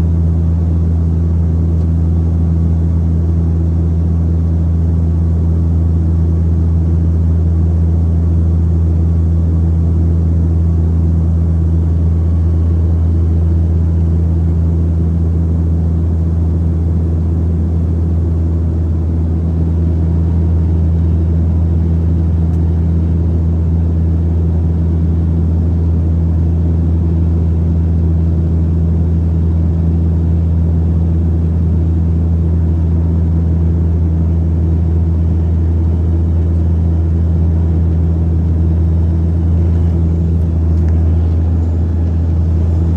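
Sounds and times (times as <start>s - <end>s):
turboprop engines droning: 0.0s - 42.9s.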